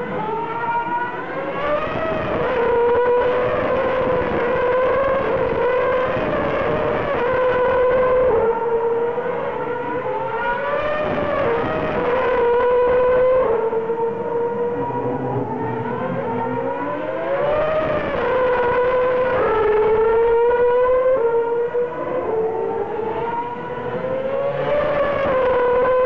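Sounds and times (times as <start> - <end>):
racing car engines whining: 0.0 - 26.0.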